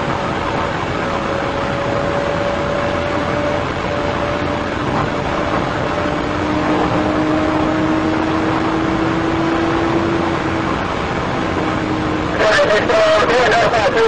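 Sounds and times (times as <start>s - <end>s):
engine drone: 0.0s - 14.0s
road and wind noise: 0.0s - 14.0s
steady whine: 0.0s - 14.0s.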